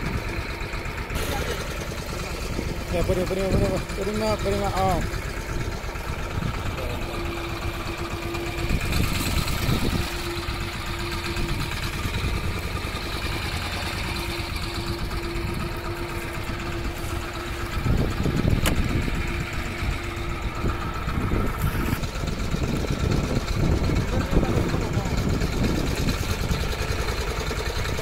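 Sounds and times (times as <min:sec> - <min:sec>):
boat engine idling: 0:00.0 - 0:28.0.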